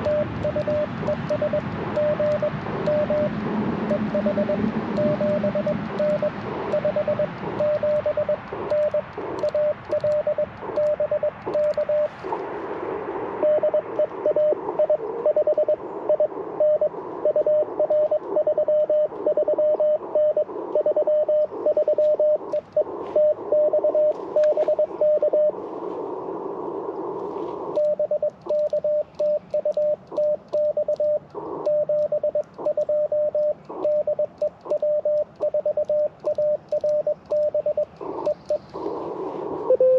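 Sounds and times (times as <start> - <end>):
morse code tone: 0.0 - 12.2, 13.4 - 25.6, 27.8 - 39.9
receiver hiss: 0.0 - 39.9.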